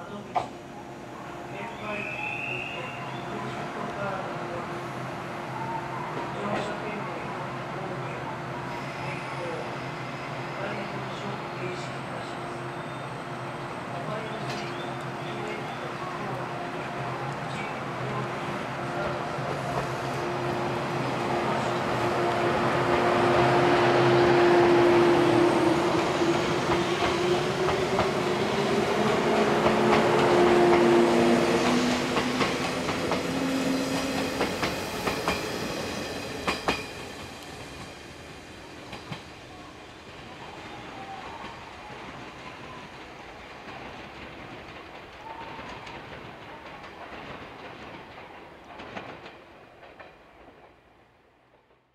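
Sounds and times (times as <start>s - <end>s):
electric train passing: 0.0s - 51.4s.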